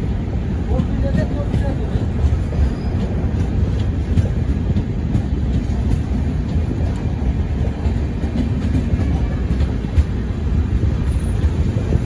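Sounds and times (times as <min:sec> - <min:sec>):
train wheels rumbling on rails: 0:00.0 - 0:12.0
wheels clicking over track: 0:00.0 - 0:12.0.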